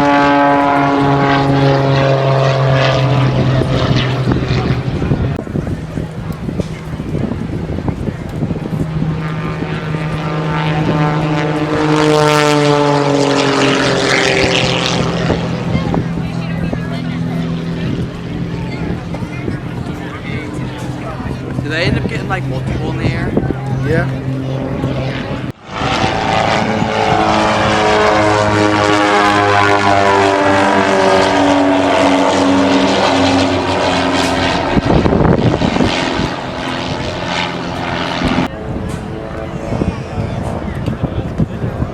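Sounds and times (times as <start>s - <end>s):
loud rushing noise: 0.0s - 40.0s
propeller airplane flying past: 0.0s - 41.9s.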